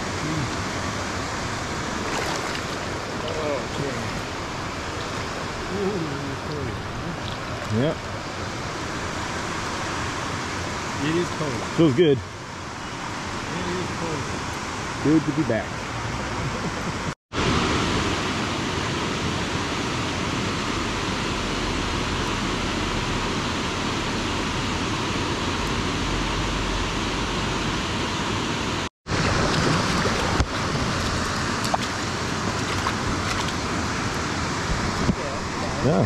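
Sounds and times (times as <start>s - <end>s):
flowing stream water: 0.0s - 36.0s.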